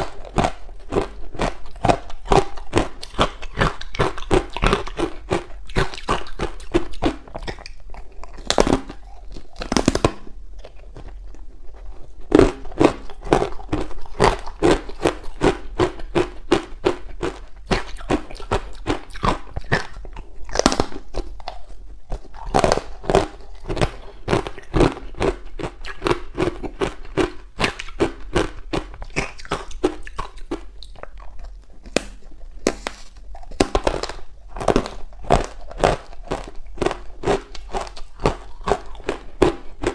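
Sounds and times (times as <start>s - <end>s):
ice being crunched and chewed: 0.0s - 39.9s.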